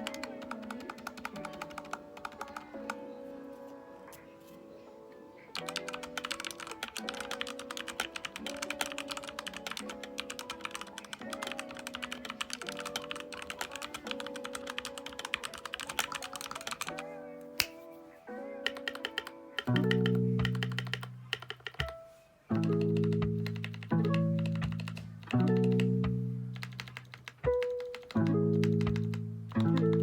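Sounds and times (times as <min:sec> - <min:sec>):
typing on mechanical keyboard: 0:00.0 - 0:03.0, 0:05.5 - 0:17.0, 0:18.6 - 0:30.0
background music with chords: 0:00.0 - 0:30.0.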